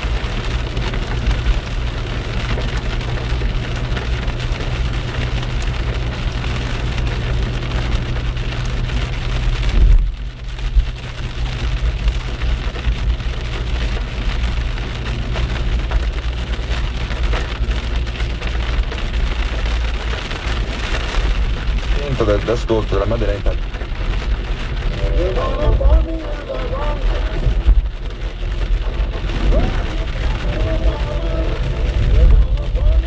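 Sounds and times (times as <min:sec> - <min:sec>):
engine and tyre hum: 0:00.0 - 0:33.0
heavy rain hitting car: 0:00.0 - 0:33.0.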